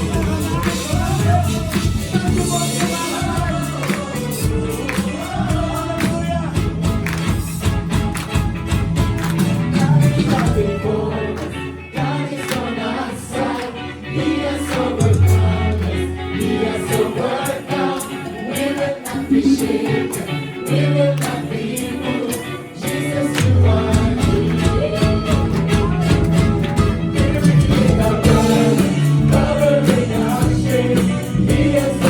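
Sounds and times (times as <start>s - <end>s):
band with bass and drum beat: 0.0s - 11.5s, 14.8s - 20.4s, 22.3s - 32.0s
group of singers: 0.0s - 32.0s.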